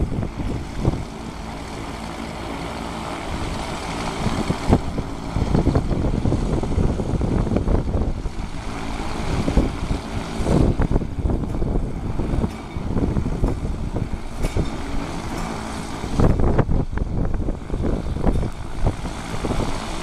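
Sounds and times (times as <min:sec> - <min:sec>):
propeller aircraft engine humming: 0:00.0 - 0:20.0.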